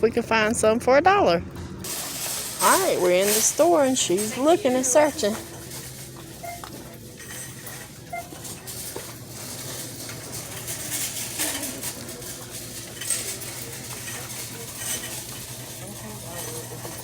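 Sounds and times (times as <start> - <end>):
goods clicking and rattling: 1.8 - 17.0.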